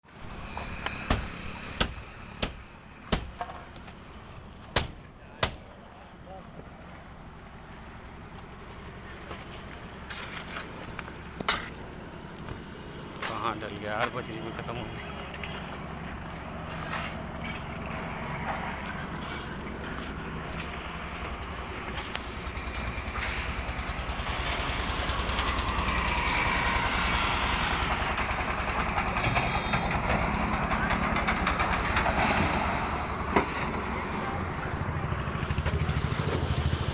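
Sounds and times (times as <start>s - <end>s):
construction machinery engine chugging: 6.9s - 36.9s.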